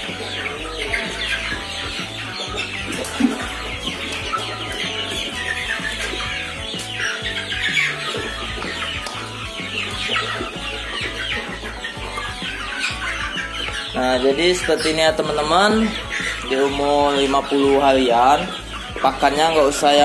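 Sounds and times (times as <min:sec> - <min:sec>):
background music with bass: 0:00.0 - 0:20.0
chickens clucking and cheeping: 0:00.0 - 0:20.0.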